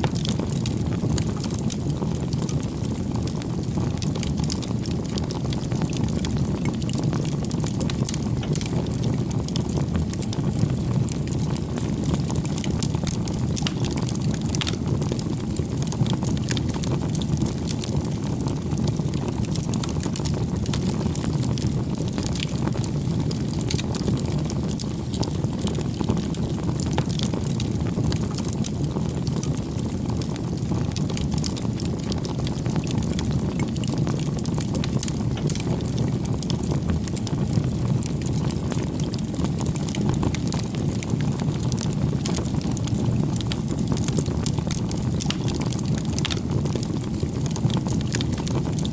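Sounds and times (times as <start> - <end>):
burning wood crackling and popping: 0.0 - 48.9
low rush of flame: 0.0 - 48.9.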